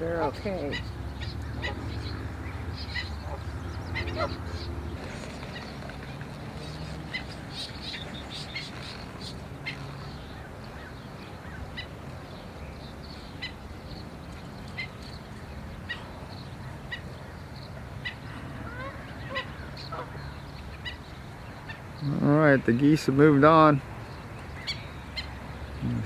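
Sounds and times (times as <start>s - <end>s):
birds yipping: 0.0s - 26.0s
lower rising bird calls: 0.6s - 22.4s.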